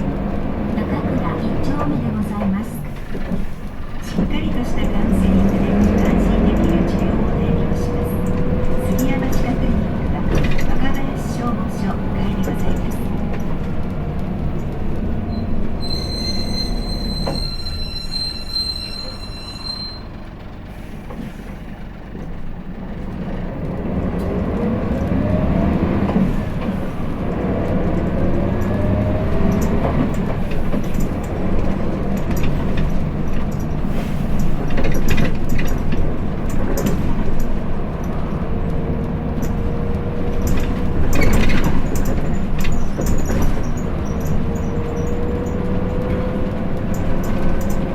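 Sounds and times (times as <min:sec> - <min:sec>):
bus body rattling: 0:00.0 - 0:47.9
bus diesel engine: 0:00.0 - 0:47.9.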